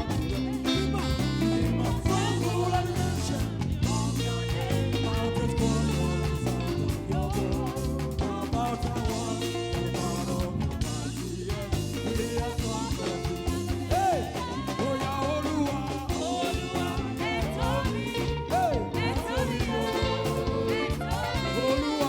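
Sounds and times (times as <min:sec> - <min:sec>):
bass and guitar: 0:00.0 - 0:22.0
praise band playing: 0:00.0 - 0:22.0
steady drum beat: 0:00.0 - 0:22.0
voices singing along: 0:00.0 - 0:22.0.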